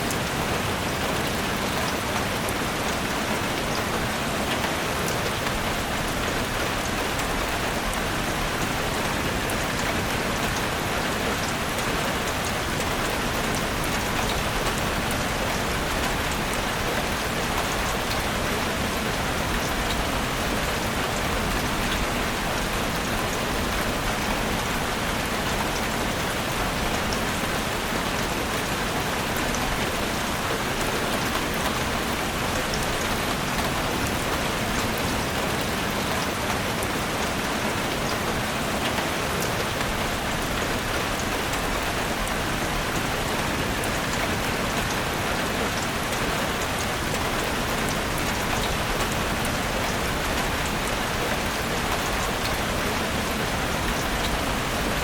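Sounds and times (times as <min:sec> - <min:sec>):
rain on foliage and ground: 0:00.0 - 0:55.0.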